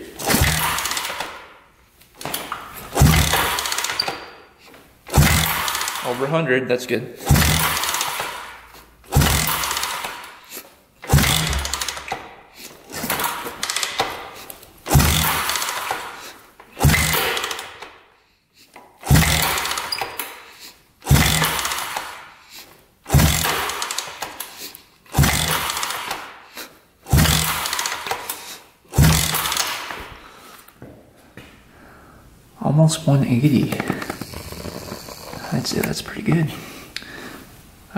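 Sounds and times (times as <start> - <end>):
motorcycle engine cranking: 0.2 - 6.4, 7.2 - 18.0, 18.8 - 30.2, 33.5 - 36.5.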